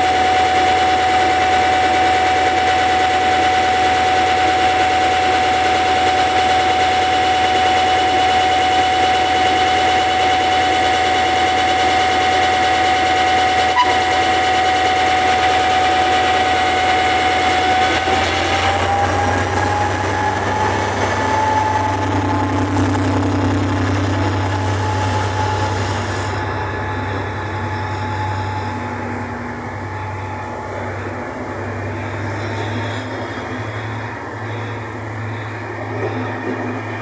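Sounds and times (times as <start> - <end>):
low train rumble: 0.0 - 37.0
train motor whine: 0.0 - 37.0.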